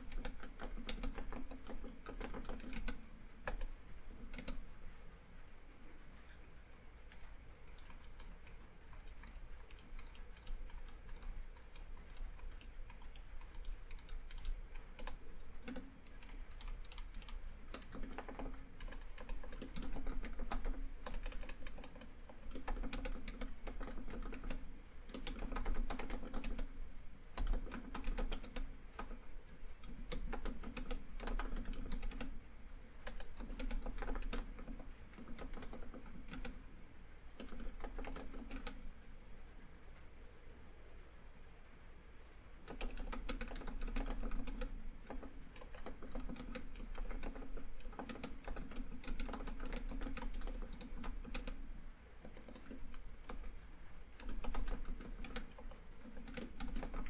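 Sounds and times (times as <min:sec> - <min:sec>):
typing on laptop keyboard: 0:00.0 - 0:04.8, 0:07.0 - 0:36.7, 0:37.3 - 0:39.0, 0:42.6 - 0:57.0.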